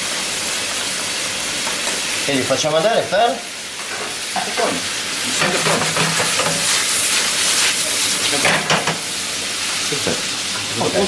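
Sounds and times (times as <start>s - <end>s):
squid and tomatoes sizzling in pan: 0.0s - 11.0s.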